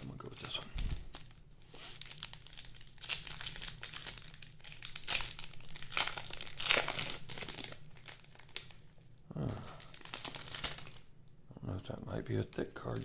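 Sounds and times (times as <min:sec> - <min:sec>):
plastic wrapper crinkling: 0:00.0 - 0:11.1, 0:12.3 - 0:13.0.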